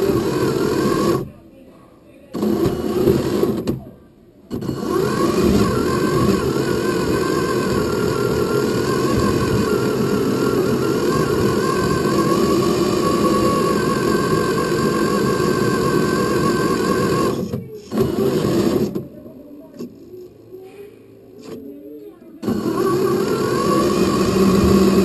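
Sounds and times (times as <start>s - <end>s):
toy truck motor hum and whine: 0.0s - 1.3s, 2.3s - 3.8s, 4.5s - 20.4s, 22.4s - 25.0s.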